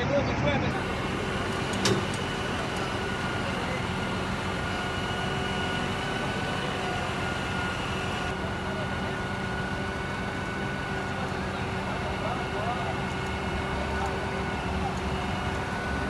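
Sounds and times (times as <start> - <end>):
truck engine and hydraulics running: 0.0 - 16.0.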